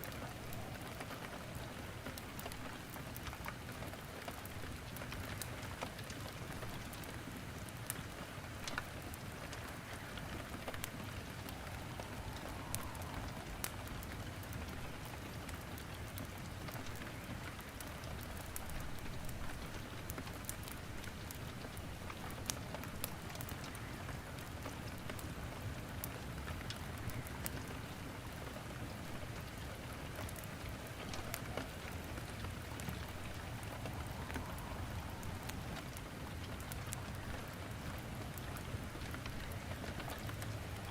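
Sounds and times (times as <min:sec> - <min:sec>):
rain falling: 0:00.0 - 0:40.9
wood fire crackling: 0:00.0 - 0:40.9.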